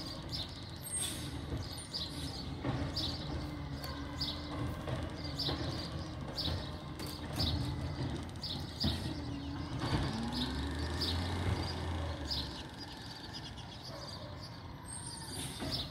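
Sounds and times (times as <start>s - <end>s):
bird chirping: 0.0s - 15.9s
truck engine rumbling: 0.0s - 15.9s.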